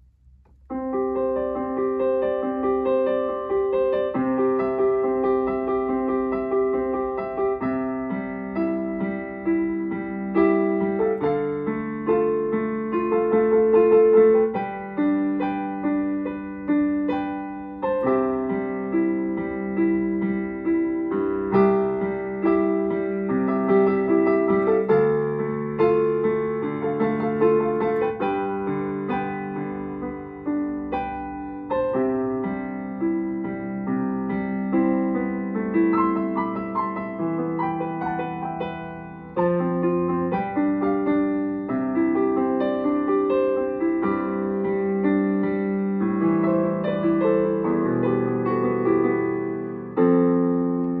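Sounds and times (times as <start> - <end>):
solo piano piece: 0.0 - 51.0.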